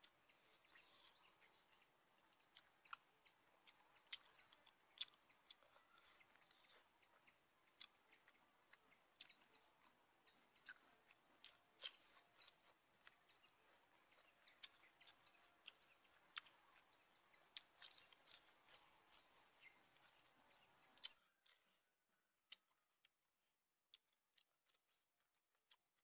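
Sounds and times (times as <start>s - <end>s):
person chewing: 0.0s - 21.9s, 22.5s - 23.2s, 23.9s - 26.0s.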